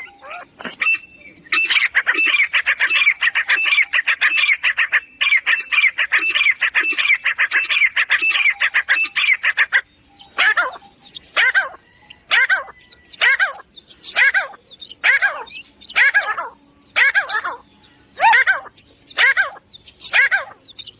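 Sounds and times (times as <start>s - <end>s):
francolin calling: 0.0s - 20.9s.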